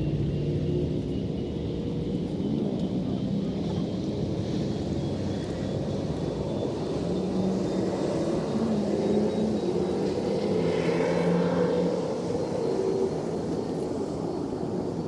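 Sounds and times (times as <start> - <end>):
engine rumbling: 0.0 - 14.8
faint high whine: 0.0 - 15.0.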